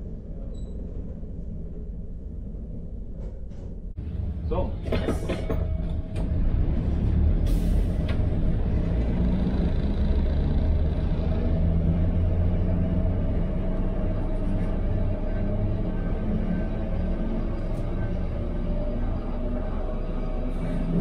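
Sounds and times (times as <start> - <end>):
tram wheels and motors rumbling: 0.0 - 21.0.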